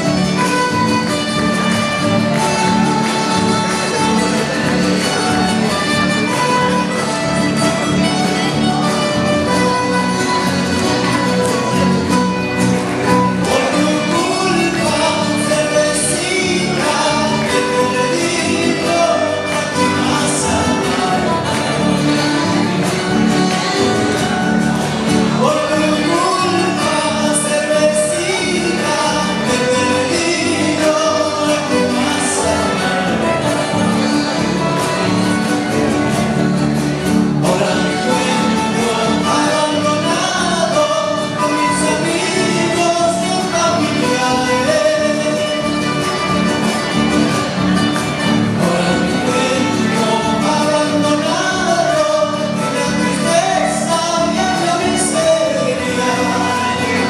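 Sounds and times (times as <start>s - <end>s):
accordion: 0.0s - 57.0s
person singing: 0.0s - 57.0s
strummed acoustic guitars: 0.0s - 57.0s.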